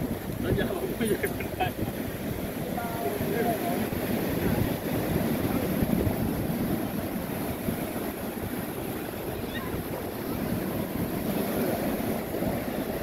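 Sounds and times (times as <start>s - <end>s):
small waves breaking: 0.0s - 13.0s
wind rumbling on microphone: 0.0s - 13.0s.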